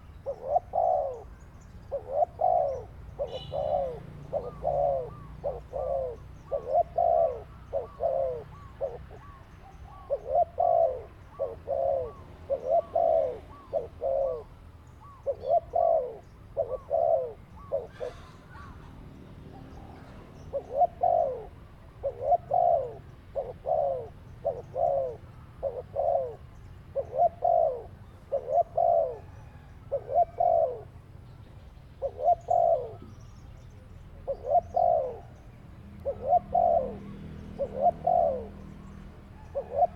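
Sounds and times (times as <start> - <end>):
dove cooing: 0.0 - 31.2, 32.0 - 39.9.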